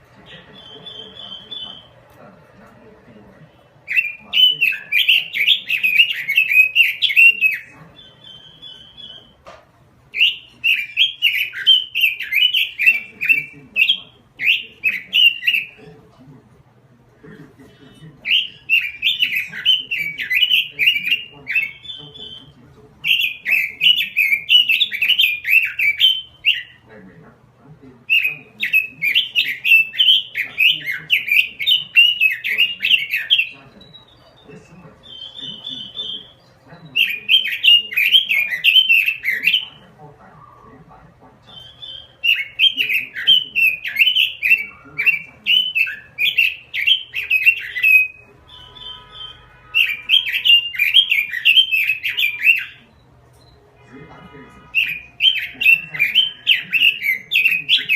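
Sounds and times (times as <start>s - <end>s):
bird singing warbling phrases: 0.0s - 57.9s.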